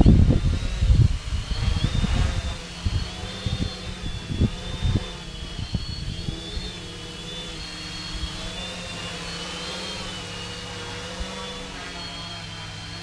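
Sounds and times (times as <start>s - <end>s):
quadcopter propeller whine: 0.0s - 13.0s
wind on microphone: 0.0s - 13.0s.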